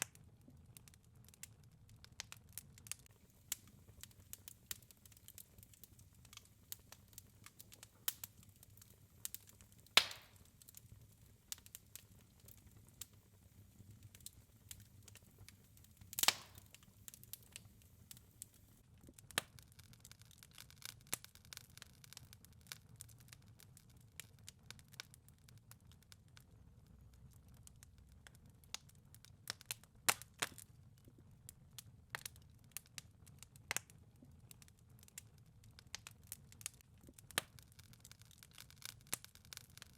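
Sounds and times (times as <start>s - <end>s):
fire crackling: 0.0s - 39.9s
fire pops: 0.0s - 39.9s.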